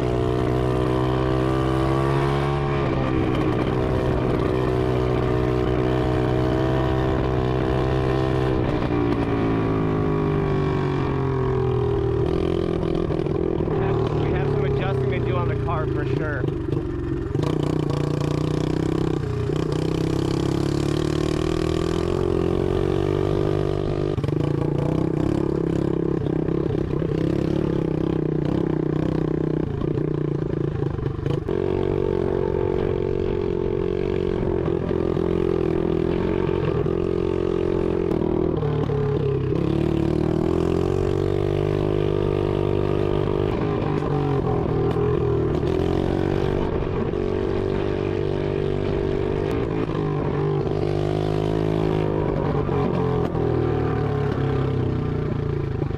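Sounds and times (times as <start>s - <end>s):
dirt bike engine revving: 0.0s - 54.6s.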